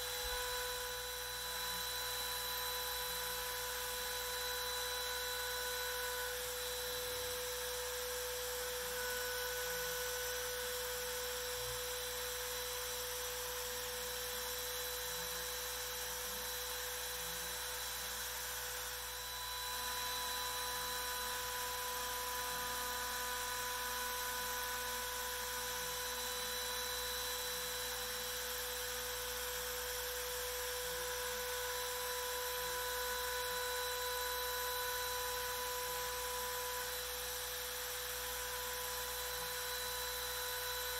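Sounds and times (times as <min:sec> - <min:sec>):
router spindle high whine: 0:00.0 - 0:40.9.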